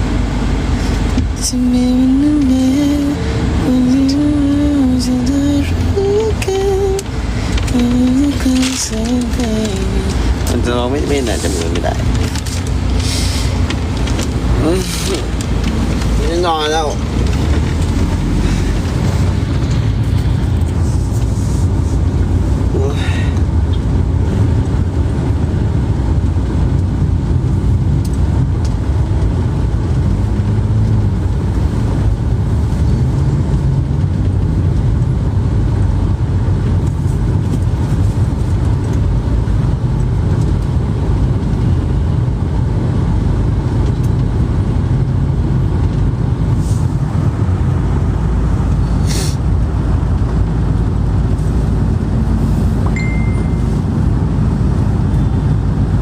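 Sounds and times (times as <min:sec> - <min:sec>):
vehicle rumble from inside: 0:00.0 - 0:56.0.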